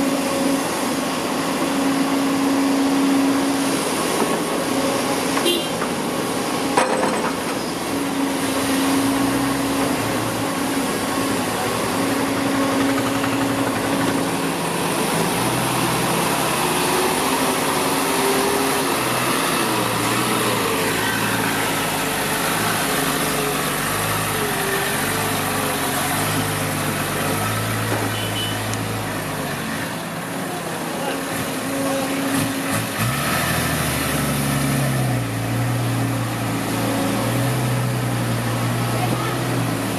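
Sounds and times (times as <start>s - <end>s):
dump truck engine driving: 0.0s - 39.9s.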